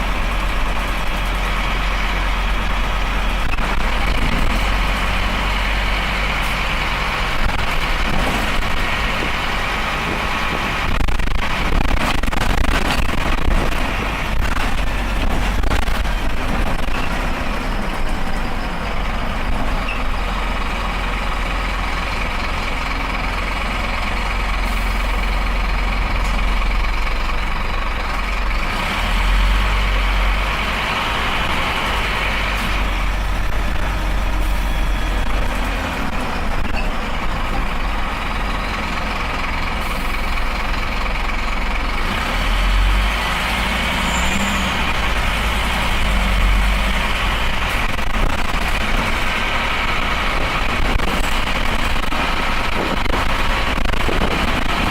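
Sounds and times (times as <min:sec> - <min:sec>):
diesel engine running: 0:00.0 - 0:54.9
road noise: 0:00.0 - 0:54.9.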